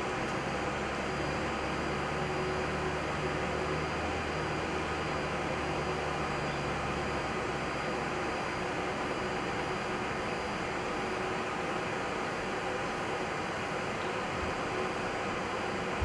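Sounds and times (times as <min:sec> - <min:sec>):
faint steady tones: 0:00.0 - 0:16.0
flight deck air and fan noise: 0:00.0 - 0:16.0.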